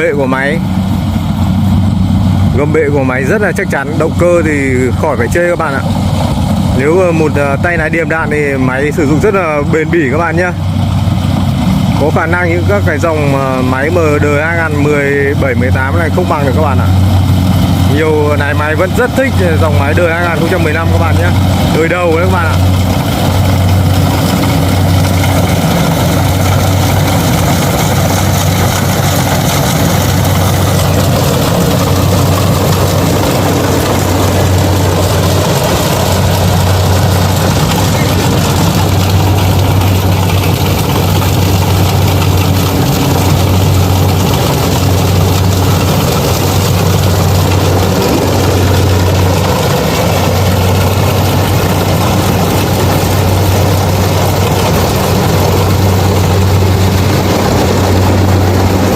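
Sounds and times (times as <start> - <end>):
diesel engine humming: 0.0 - 58.9
harvester machine working: 0.0 - 58.9.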